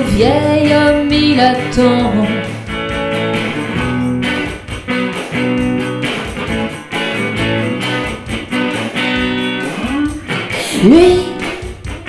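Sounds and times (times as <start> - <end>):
electric guitar strumming chords: 0.0 - 12.0.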